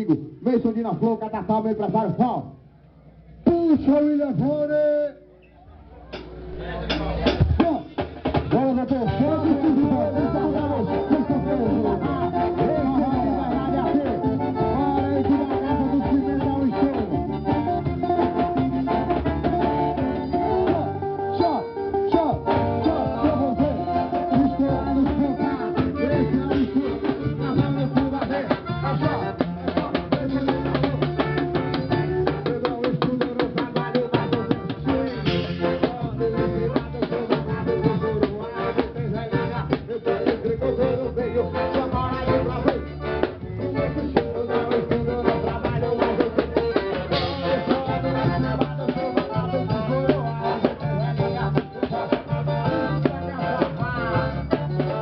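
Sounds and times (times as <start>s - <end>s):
low bass notes: 0.0s - 55.0s
drum kit fast beat: 6.2s - 21.0s, 22.4s - 55.0s.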